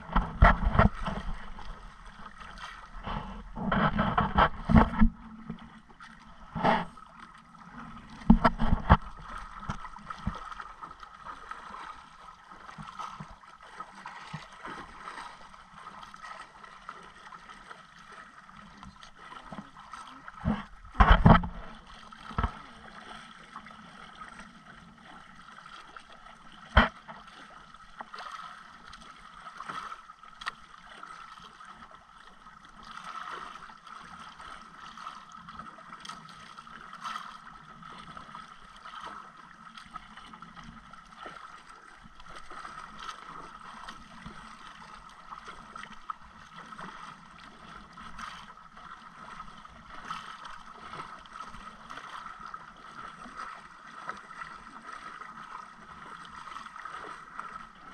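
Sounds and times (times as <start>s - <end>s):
water sloshing against boat hull: 0.0s - 57.9s.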